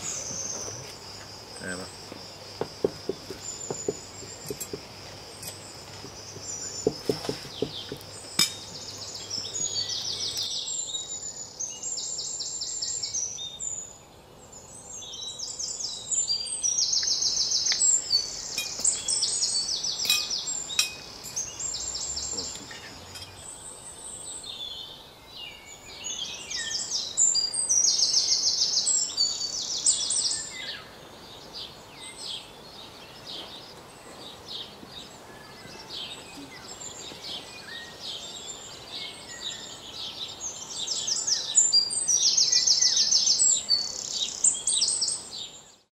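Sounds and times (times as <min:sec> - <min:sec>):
songbirds chirping and trilling: 0:00.0 - 0:45.9
steady background hiss: 0:00.0 - 0:45.9.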